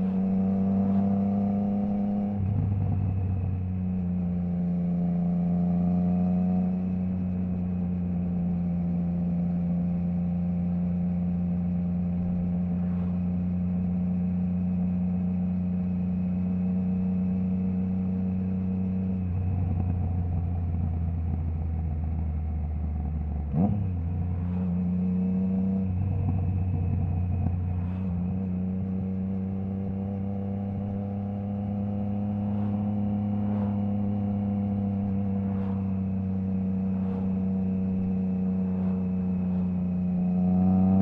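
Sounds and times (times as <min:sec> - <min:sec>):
motorcycle engine at steady revs: 0:00.0 - 0:41.0.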